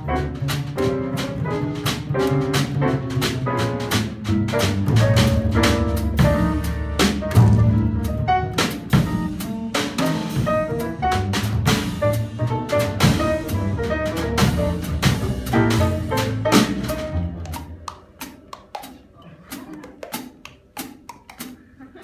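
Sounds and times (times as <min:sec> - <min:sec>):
plucked double bass: 0:00.0 - 0:21.6
drum kit with ride cymbal: 0:00.0 - 0:21.7.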